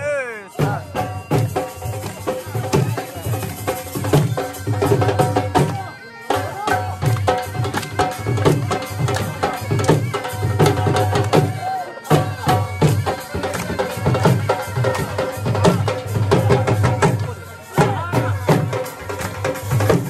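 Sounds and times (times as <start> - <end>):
drum beating steady rhythm: 0.0 - 20.0
reed pipe melody: 0.0 - 20.0.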